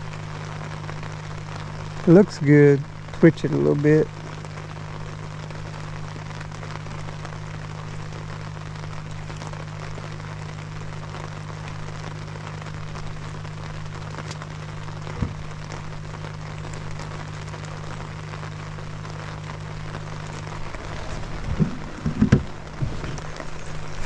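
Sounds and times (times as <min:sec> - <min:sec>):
steady rain: 0:00.0 - 0:24.0
low hum: 0:04.0 - 0:24.0.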